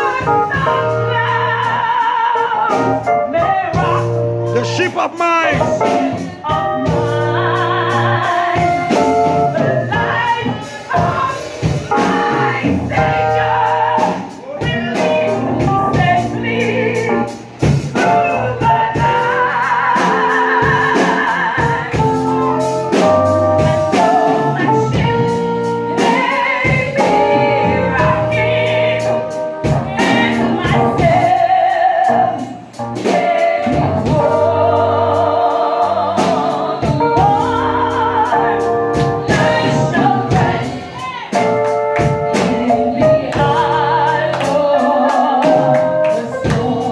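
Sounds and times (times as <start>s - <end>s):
woman singing gospel song: 0.0s - 17.4s, 18.0s - 46.9s
drums: 0.0s - 46.9s
keyboard: 0.0s - 46.9s.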